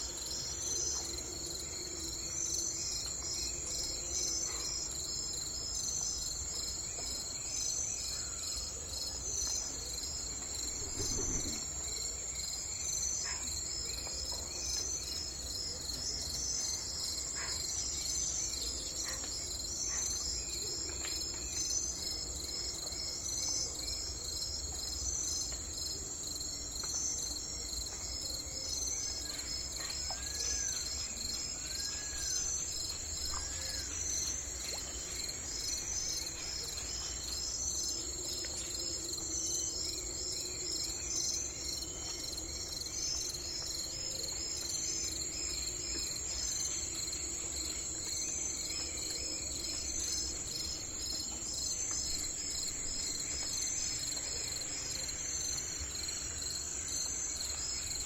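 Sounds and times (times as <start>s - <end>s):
insects chirring: 7.3s - 58.0s.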